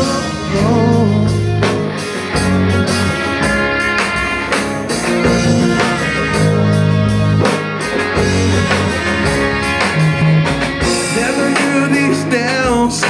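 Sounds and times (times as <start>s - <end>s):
live rock band playing: 0.0s - 13.0s
drum kit hits: 1.4s - 13.0s.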